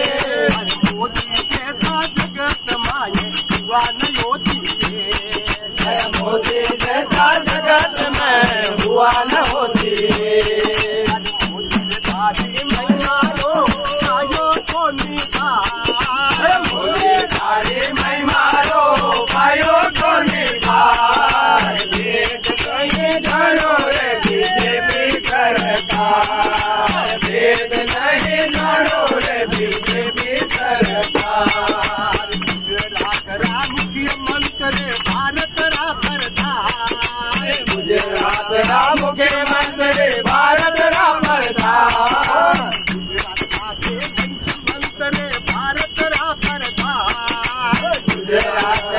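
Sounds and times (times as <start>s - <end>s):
hand cymbals jingling: 0.0s - 48.9s
men singing together: 0.0s - 48.9s.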